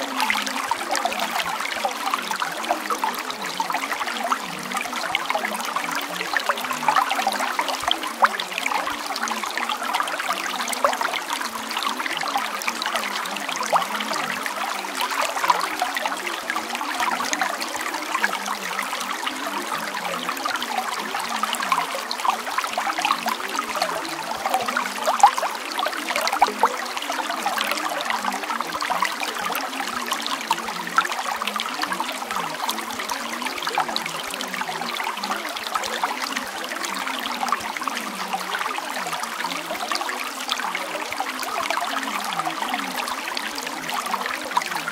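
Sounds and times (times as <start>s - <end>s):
babbling stream: 0.0s - 44.9s.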